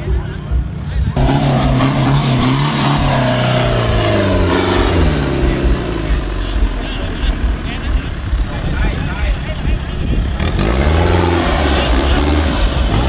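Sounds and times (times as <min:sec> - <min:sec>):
pickup engine revving: 0:00.0 - 0:13.0.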